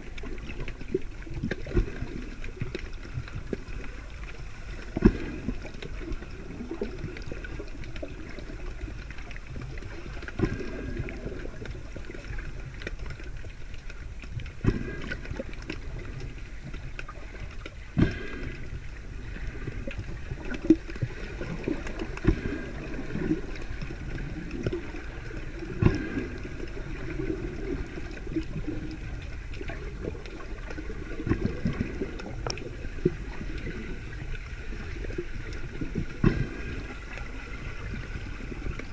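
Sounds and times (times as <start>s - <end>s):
underwater rumble and sloshing: 0.0s - 38.9s.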